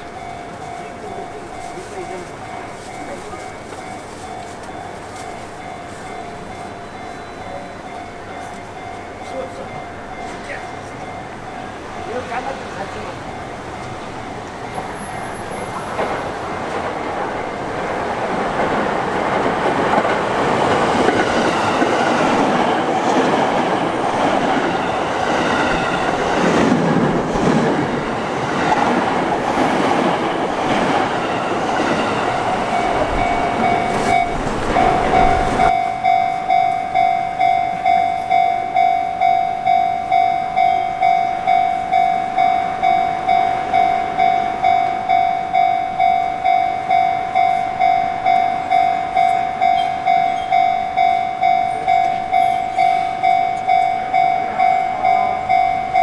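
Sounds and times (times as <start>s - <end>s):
level crossing alarm bell: 0.0s - 56.0s
train running past: 0.0s - 56.0s.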